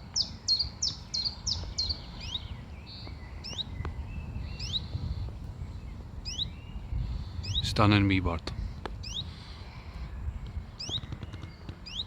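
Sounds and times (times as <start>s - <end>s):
birds giving short rising calls: 0.0s - 12.0s.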